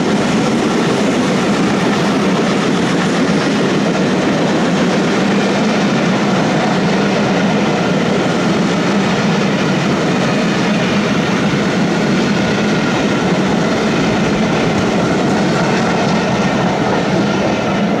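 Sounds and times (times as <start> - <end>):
train wheels rumbling and rattling: 0.0 - 18.0.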